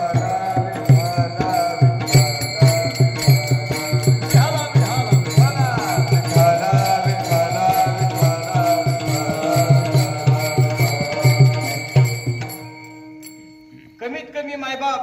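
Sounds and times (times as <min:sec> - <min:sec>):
brass hand cymbals: 0:00.0 - 0:13.9
sung melodic line: 0:00.0 - 0:14.0.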